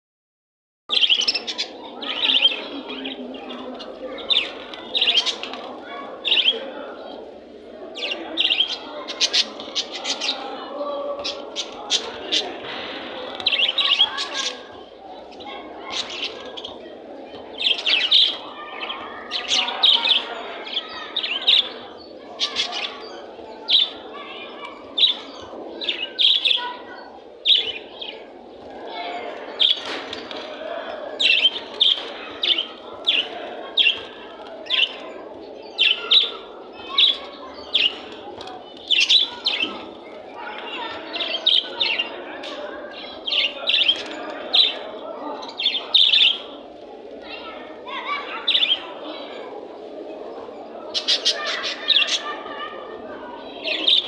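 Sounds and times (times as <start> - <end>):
small birds chirping: 0.9 - 54.0.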